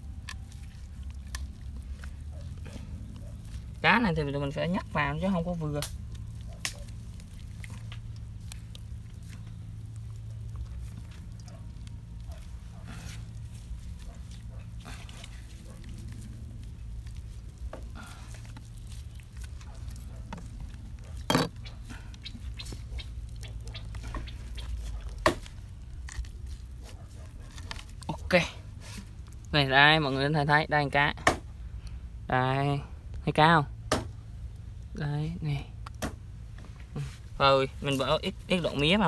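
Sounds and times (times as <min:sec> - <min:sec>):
wet squishing and scraping: 0:00.0 - 0:32.1, 0:35.7 - 0:39.0.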